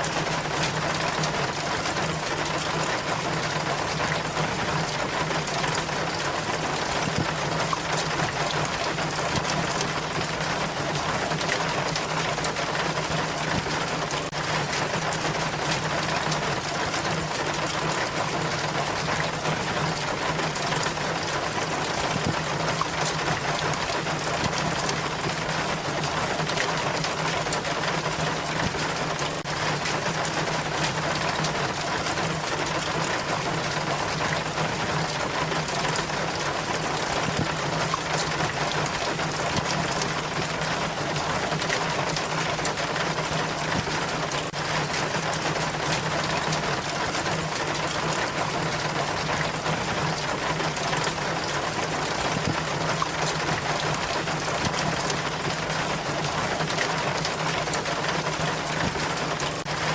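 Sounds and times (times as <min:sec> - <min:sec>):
rain water trickling down chain: 0:00.0 - 0:59.9.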